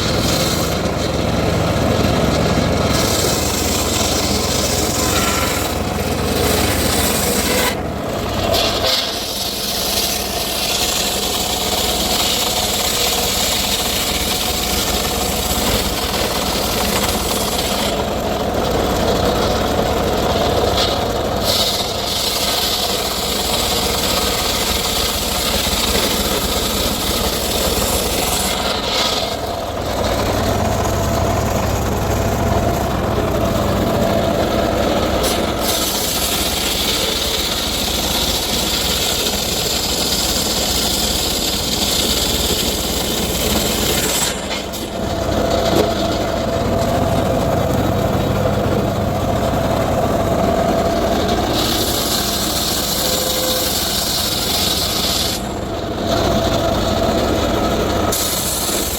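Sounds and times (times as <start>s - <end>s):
circular saw cutting wood: 0.0s - 58.9s.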